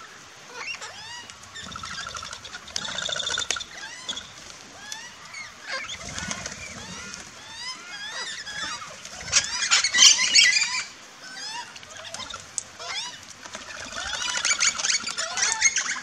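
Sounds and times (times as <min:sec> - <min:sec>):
parrots screeching: 0:00.5 - 0:16.0.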